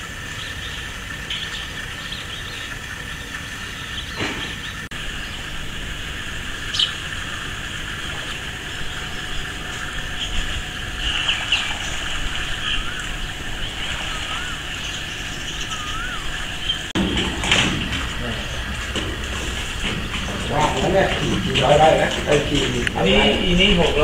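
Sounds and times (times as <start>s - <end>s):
birds chirping: 0.0s - 24.0s
steady low rumble: 0.0s - 24.0s.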